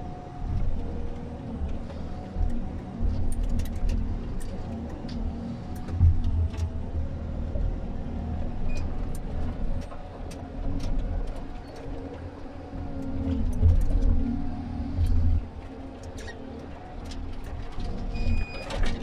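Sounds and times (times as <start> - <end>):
diesel engine and hydraulics drone: 0.0 - 19.0.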